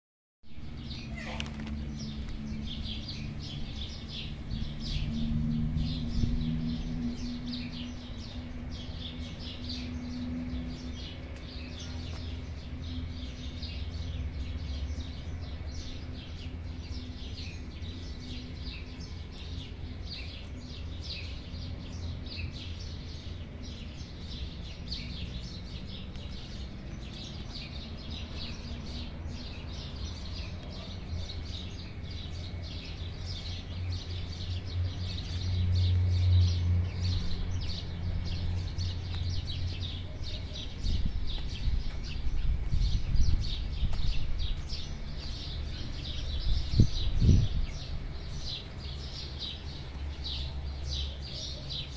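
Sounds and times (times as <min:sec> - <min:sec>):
songbirds chirping and singing: 0:00.6 - 0:51.9.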